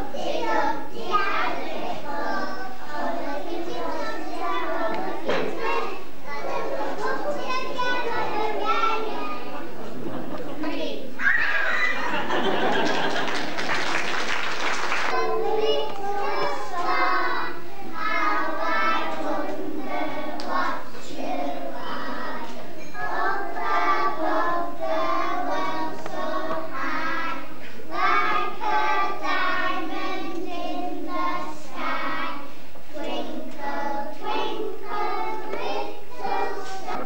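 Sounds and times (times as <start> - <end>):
children singing in unison: 0.0 - 9.9, 11.8 - 37.0.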